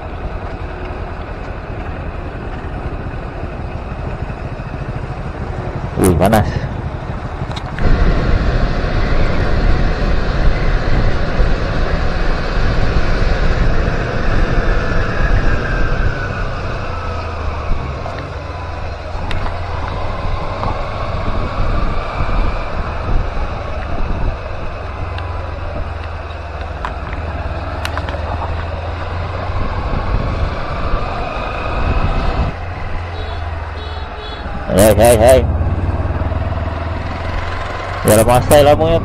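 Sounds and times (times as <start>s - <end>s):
motorcycle engine running: 0.0s - 39.0s
wind rushing over microphone: 1.6s - 39.0s.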